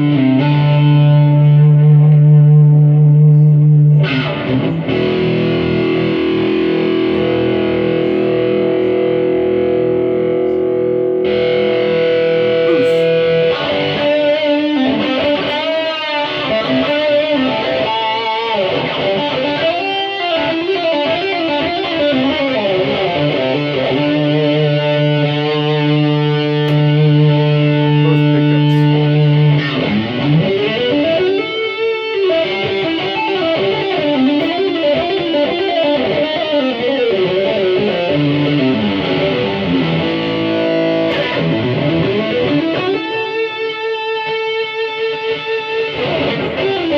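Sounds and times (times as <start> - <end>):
distorted electric guitar lead: 0.0 - 46.9.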